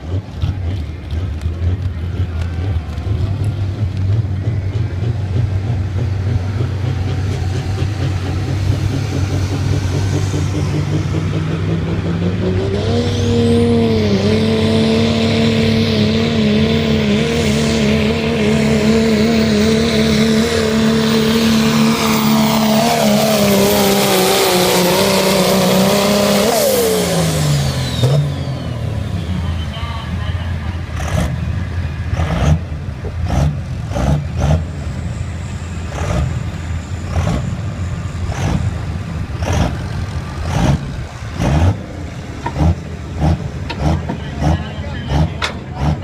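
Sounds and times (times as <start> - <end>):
diesel truck engine revving: 0.0 - 46.0.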